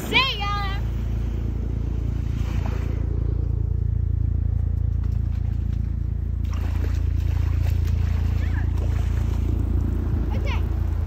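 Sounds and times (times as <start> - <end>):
low mechanical hum: 0.0 - 11.0
water swishing: 0.0 - 11.0.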